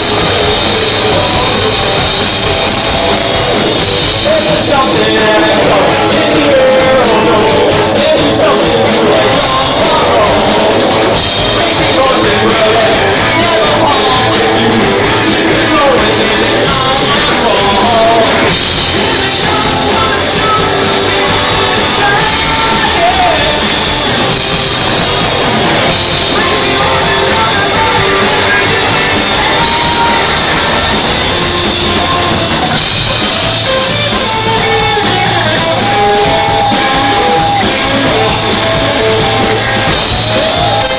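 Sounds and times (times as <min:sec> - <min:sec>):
rock music with singing: 0:00.0 - 0:40.9.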